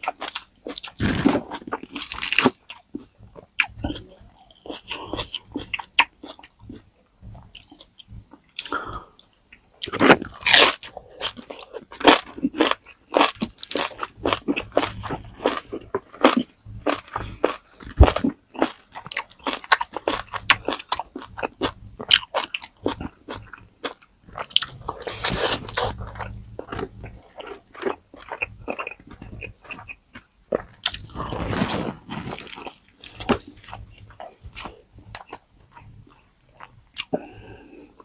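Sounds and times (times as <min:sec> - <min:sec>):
crunching bites and chewing: 0:00.0 - 0:37.6.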